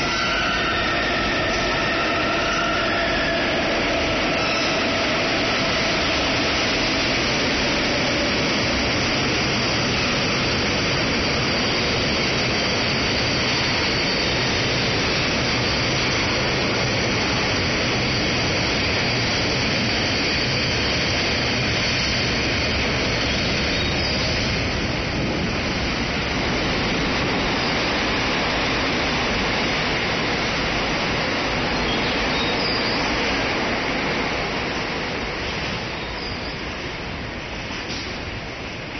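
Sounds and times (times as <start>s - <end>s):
freight train wheels rolling on rail: 0.0s - 38.9s.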